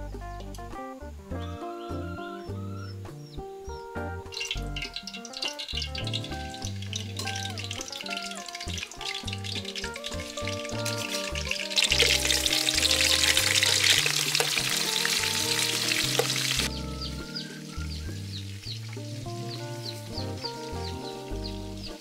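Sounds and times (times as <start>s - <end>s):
ribs sizzling in hot oil: 4.3s - 22.0s.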